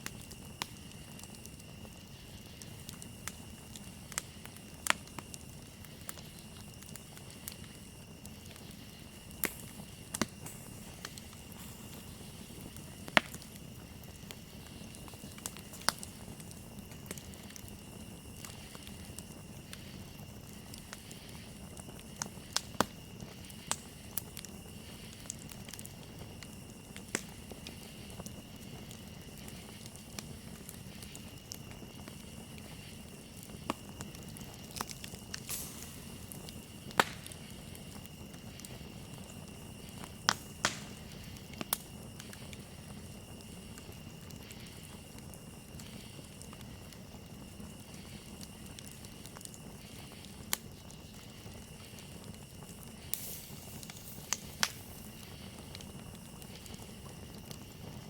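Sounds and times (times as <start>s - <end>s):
campfire crackling and popping: 0.0s - 58.0s
crickets chirping: 0.0s - 58.0s.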